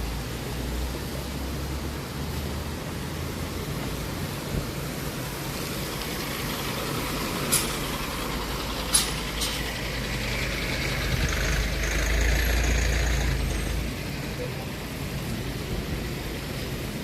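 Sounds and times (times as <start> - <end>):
vehicle passing with low rumble: 0.0 - 16.4
street traffic: 0.0 - 17.0.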